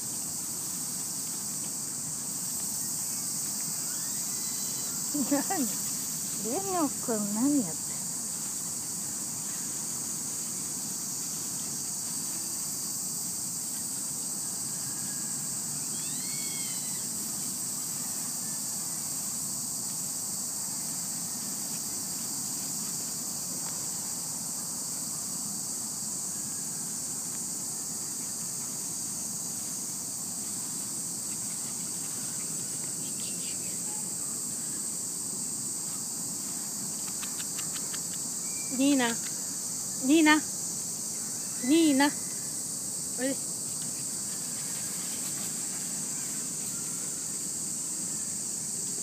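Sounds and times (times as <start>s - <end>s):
low rustling hiss: 0.0s - 41.6s
insects chirring: 0.0s - 49.0s.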